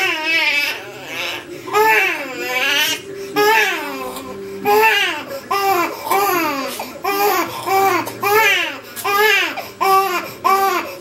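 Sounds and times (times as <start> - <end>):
baby crying: 0.0 - 11.0.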